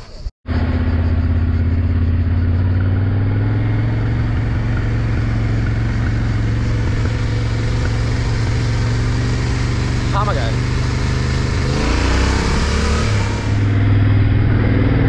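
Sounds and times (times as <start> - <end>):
motorcycle engine drone: 0.0 - 15.0
road and wind noise: 0.0 - 15.0.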